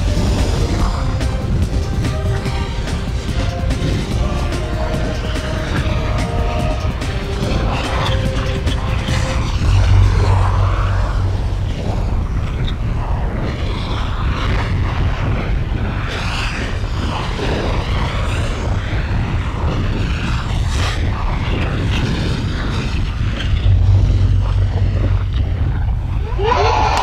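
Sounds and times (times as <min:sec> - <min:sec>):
low rumbling drone: 0:00.0 - 0:27.0
rushing churning noise: 0:00.0 - 0:27.0.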